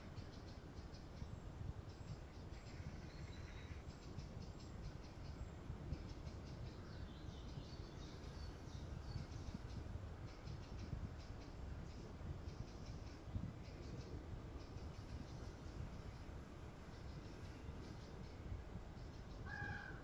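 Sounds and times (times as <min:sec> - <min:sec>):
low steady rumble: 0:00.0 - 0:20.0
small birds chirping: 0:00.0 - 0:20.0.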